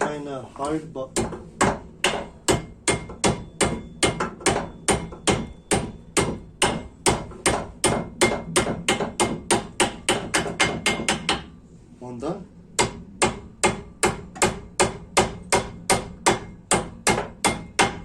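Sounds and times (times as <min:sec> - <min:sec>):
hammer striking metal pin: 0:01.2 - 0:11.5, 0:12.8 - 0:18.0.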